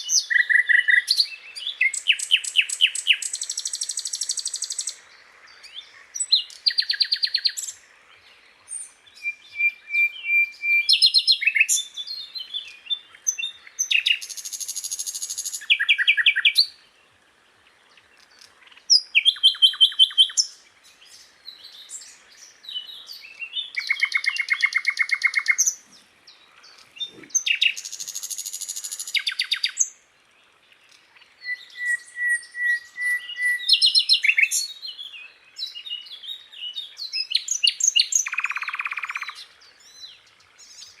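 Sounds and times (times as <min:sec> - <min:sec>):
bird singing trills: 0:00.0 - 0:16.8, 0:17.9 - 0:30.0, 0:30.8 - 0:41.0.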